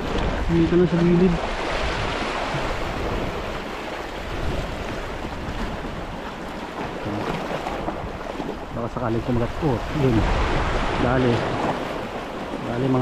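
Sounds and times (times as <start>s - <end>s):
sea waves washing on shore: 0.0s - 13.0s
wind on microphone: 0.0s - 13.0s.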